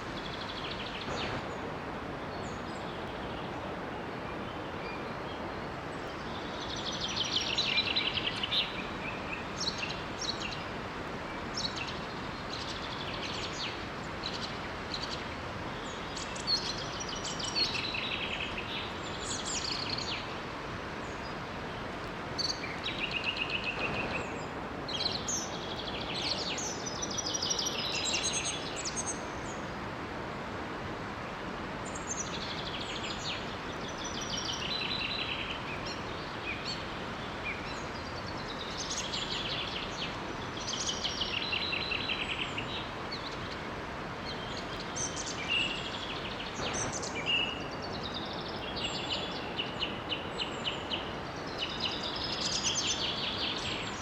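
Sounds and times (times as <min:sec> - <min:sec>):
small waterfall rushing: 0:00.0 - 0:54.0
songbirds chirping: 0:00.0 - 0:54.0.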